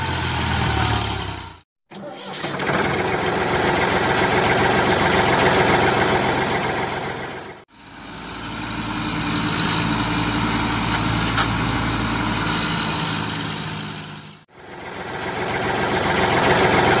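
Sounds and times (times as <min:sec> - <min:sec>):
model tractor engine humming: 0:00.0 - 0:17.0.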